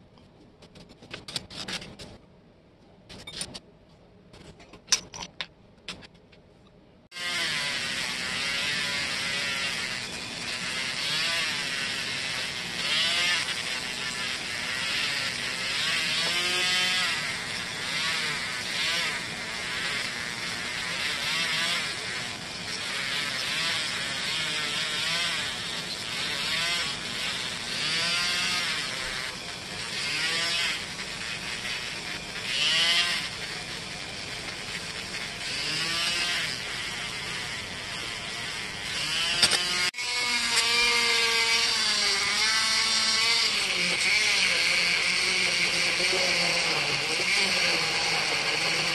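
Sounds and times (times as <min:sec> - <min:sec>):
polishing wheel whine: 0:07.1 - 0:48.9
rotary tool motor hum: 0:07.1 - 0:48.9.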